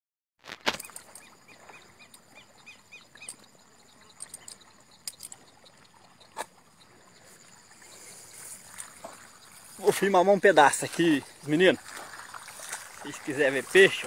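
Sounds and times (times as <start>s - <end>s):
high insect whine: 0.7s - 14.0s.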